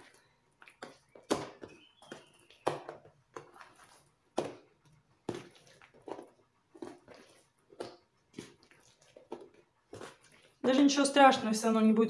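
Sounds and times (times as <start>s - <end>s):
sticky dough squelches: 0.0s - 11.9s.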